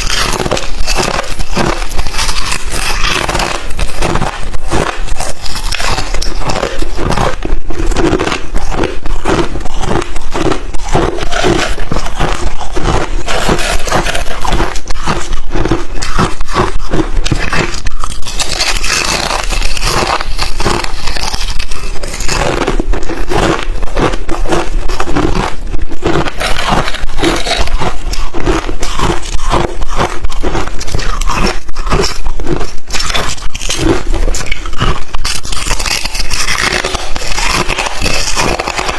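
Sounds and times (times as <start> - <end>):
person chewing crushed ice: 0.0 - 38.9.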